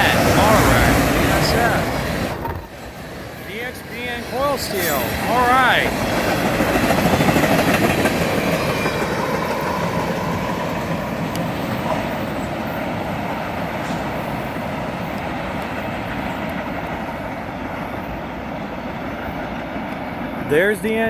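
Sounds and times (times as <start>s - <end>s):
train wheel squeal: 0.0s - 20.8s
freight train rolling past: 0.0s - 21.0s.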